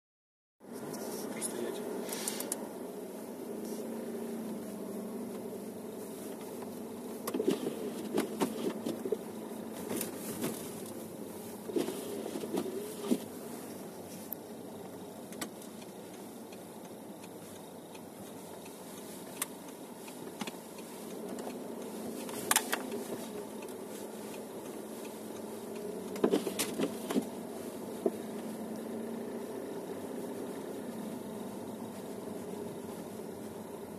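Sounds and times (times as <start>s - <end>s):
car engine hum and road noise: 0.6s - 33.9s.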